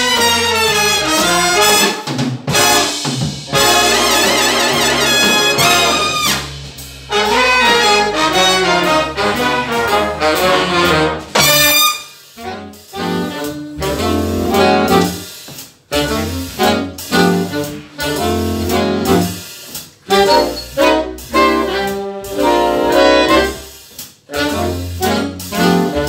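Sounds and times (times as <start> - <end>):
jazz big band playing: 0.0 - 26.0.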